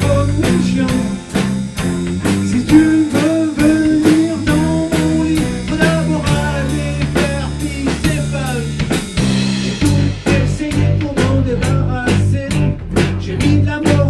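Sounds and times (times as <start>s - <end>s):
lead melody: 0.0s - 11.8s
bass line: 0.0s - 14.0s
drum kit beat: 0.0s - 14.0s.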